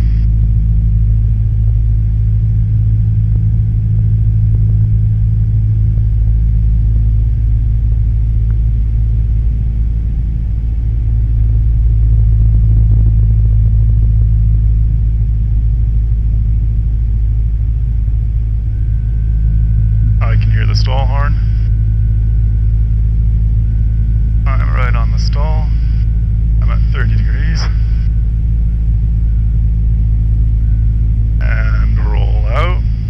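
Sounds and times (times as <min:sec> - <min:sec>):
airplane engine and propeller drone: 0:00.0 - 0:33.0.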